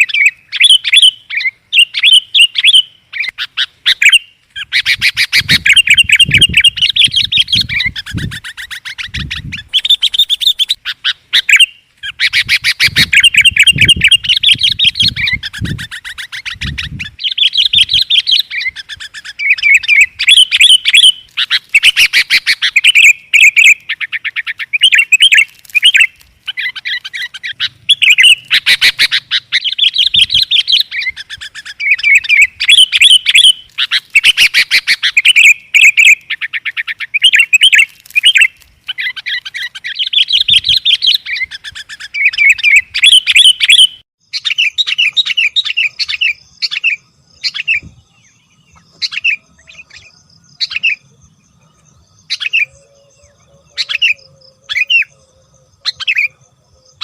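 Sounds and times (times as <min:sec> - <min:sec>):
birds chattering and whistling: 0:00.0 - 0:57.0.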